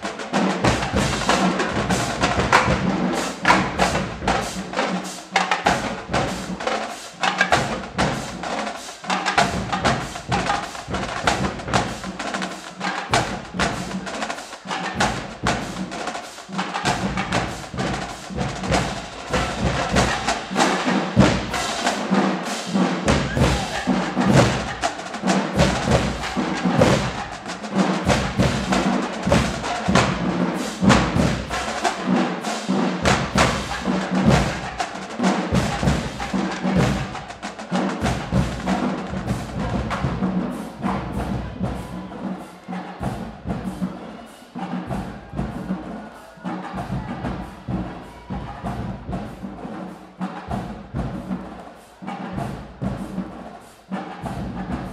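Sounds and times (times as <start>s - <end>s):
snare and bass drums marching beat: 0.0s - 54.9s.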